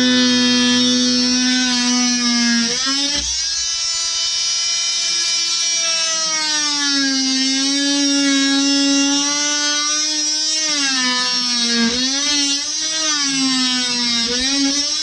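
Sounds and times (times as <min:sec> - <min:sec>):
oscillating multi-tool buzzing: 0:00.0 - 0:15.0.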